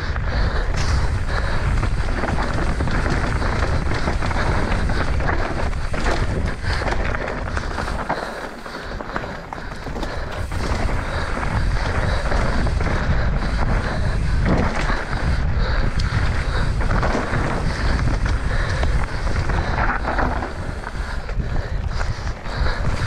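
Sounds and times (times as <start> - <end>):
bike rattling and clicking: 0.0 - 23.0
tyre rumble: 0.0 - 23.0
wind rushing over microphone: 0.0 - 23.0.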